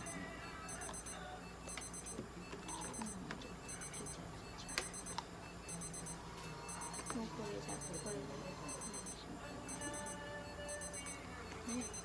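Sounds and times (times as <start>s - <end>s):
electronic alarm beeping: 0.0s - 12.0s.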